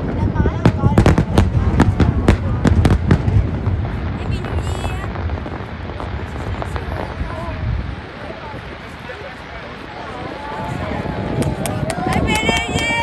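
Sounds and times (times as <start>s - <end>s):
low rumble: 0.0s - 12.2s
high crackle: 0.0s - 12.4s
fireworks bangs: 0.0s - 13.0s.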